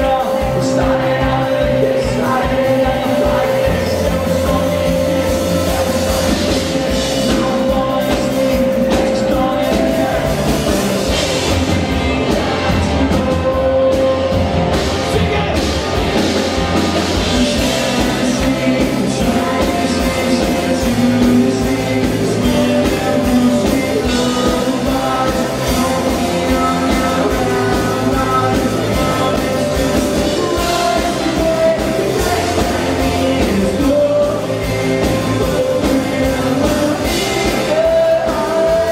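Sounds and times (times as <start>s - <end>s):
lead vocal singing: 0.0s - 38.9s
rock band playing live: 0.0s - 38.9s.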